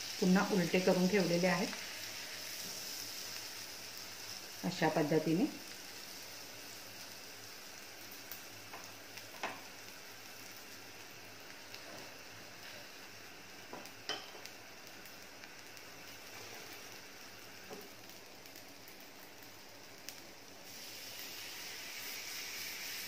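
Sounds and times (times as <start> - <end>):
butter sizzling in a frying pan: 0.0 - 23.0.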